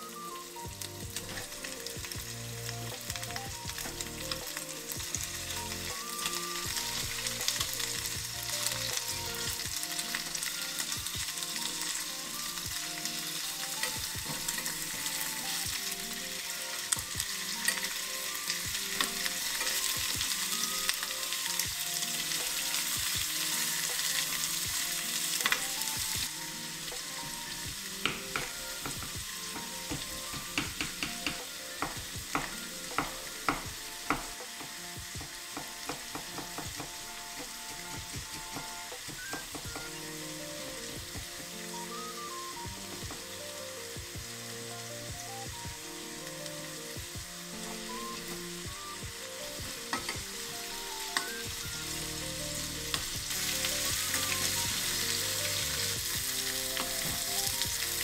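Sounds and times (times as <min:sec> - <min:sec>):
meat sizzling in a pot: 0:00.0 - 0:58.0.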